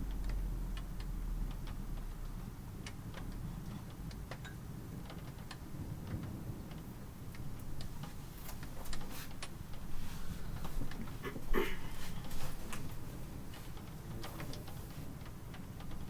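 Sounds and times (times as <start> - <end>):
low rain rumble: 0.0 - 16.0.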